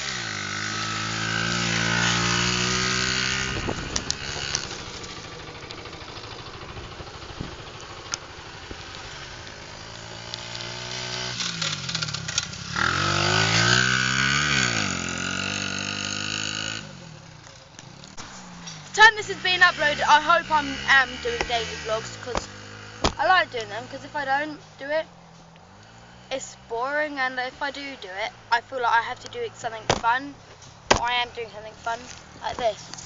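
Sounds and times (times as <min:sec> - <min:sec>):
pit bike engine revving: 0:00.0 - 0:33.0.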